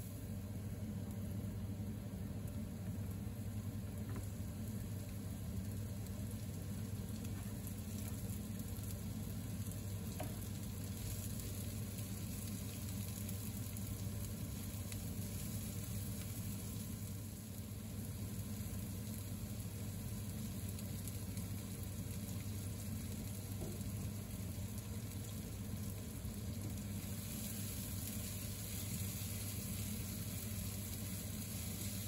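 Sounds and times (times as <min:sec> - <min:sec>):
onion sizzling in oil: 0:00.0 - 0:32.0.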